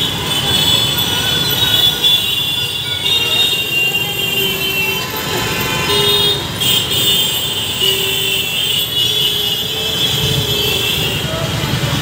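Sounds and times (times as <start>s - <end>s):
traffic engines and tyres: 0.0s - 12.0s
vehicle horns tooting: 0.0s - 12.0s.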